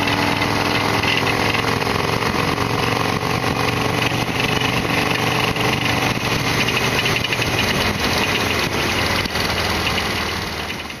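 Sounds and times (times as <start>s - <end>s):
fast ticking: 0.0s - 11.0s
motorcycle engine running: 0.0s - 11.0s.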